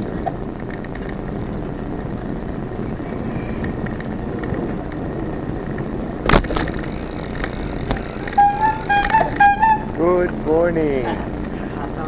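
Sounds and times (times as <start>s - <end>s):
wind and tyre noise: 0.0s - 12.0s.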